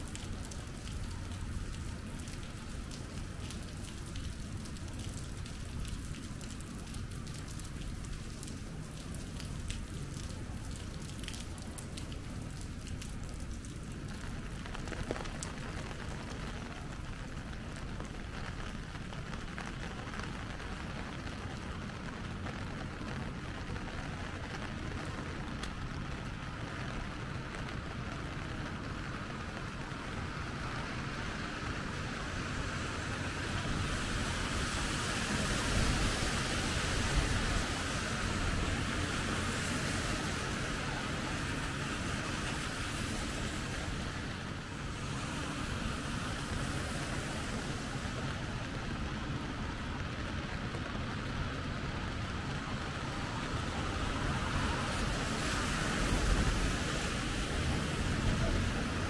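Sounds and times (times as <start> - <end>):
traffic hiss on wet pavement: 0.0 - 59.0.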